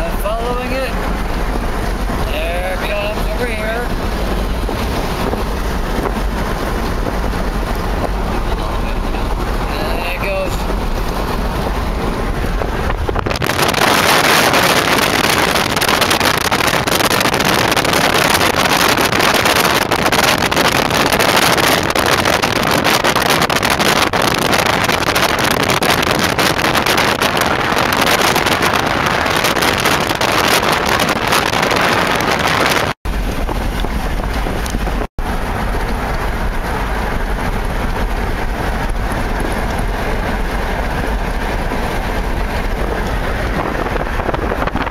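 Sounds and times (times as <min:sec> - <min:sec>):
car road and wind noise: 0:00.0 - 0:44.9.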